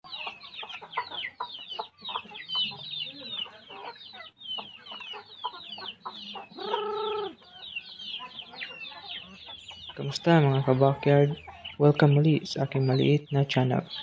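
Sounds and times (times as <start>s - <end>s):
drawn-out chicken call: 0.0s - 12.1s
chicks peeping: 0.0s - 14.0s
hens clucking: 0.0s - 14.0s.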